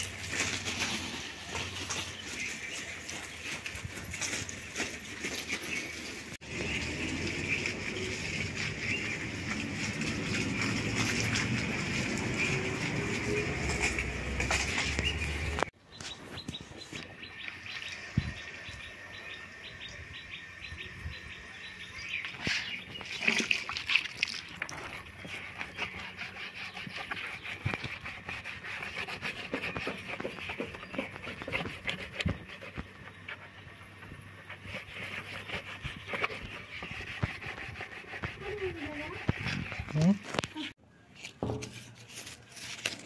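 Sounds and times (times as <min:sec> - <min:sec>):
birds chirping: 0:01.2 - 0:23.8, 0:24.4 - 0:40.7.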